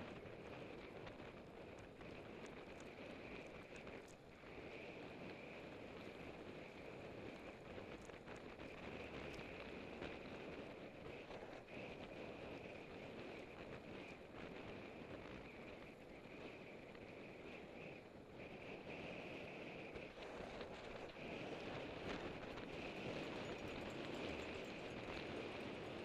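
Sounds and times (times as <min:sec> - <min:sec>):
bicycle tyres and drivetrain whir: 0:00.0 - 0:26.0
wind rushing over microphone: 0:00.0 - 0:26.0
faint ticks: 0:00.1 - 0:16.6, 0:19.9 - 0:26.0.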